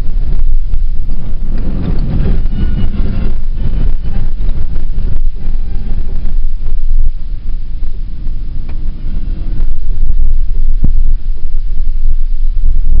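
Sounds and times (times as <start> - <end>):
vehicle rumbling on rough track: 0.0 - 13.0
wind buffeting microphone: 0.0 - 13.0.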